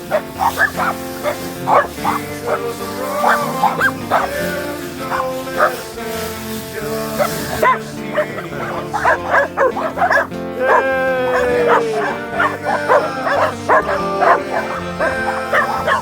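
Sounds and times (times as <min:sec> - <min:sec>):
dogs barking and yipping: 0:00.0 - 0:16.0
music with held notes: 0:00.0 - 0:16.0.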